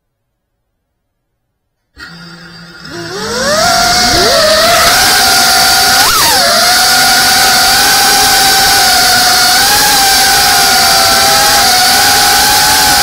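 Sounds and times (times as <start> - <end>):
drone propellers whining: 2.0 - 13.0.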